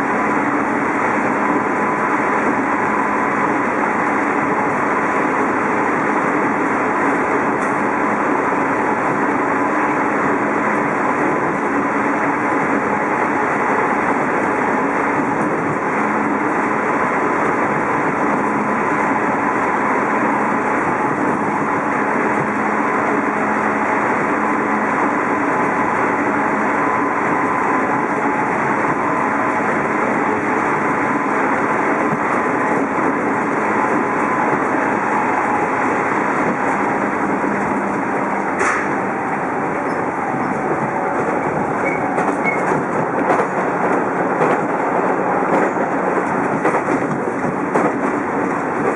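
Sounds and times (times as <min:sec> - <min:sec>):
electric train running noise: 0:00.0 - 0:48.9.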